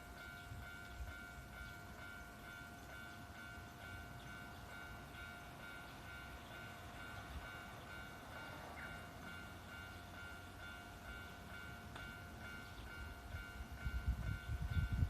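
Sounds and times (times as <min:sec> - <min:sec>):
level-crossing warning bell: 0:00.0 - 0:15.0.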